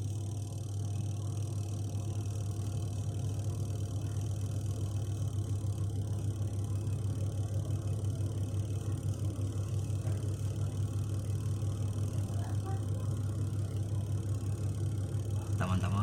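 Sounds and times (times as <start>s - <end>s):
spin-dryer motor humming: 0.0s - 16.0s.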